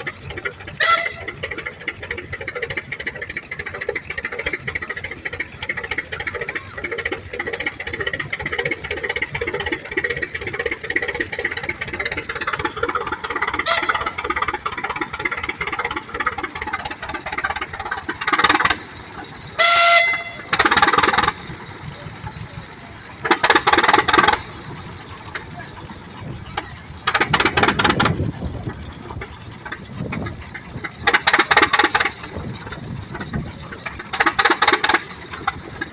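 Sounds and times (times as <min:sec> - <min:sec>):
loud bursts of noise: 0:00.0 - 0:35.9
tractor engine running: 0:00.0 - 0:35.9.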